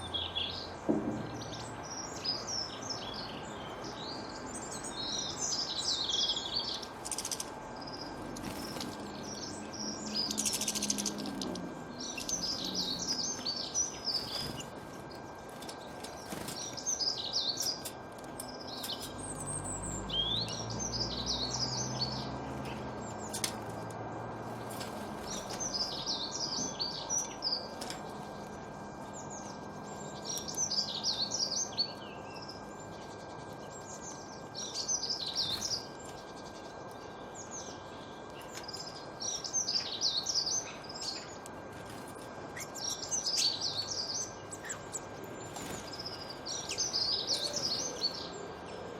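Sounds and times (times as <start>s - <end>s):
outdoor background hiss: 0.0s - 48.9s
songbirds chirping: 0.0s - 48.9s.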